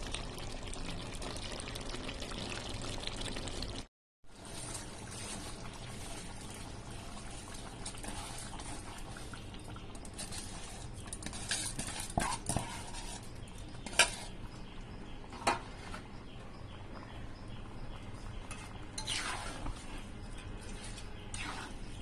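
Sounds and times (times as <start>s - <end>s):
pot bubbling and hissing: 0.0s - 22.0s.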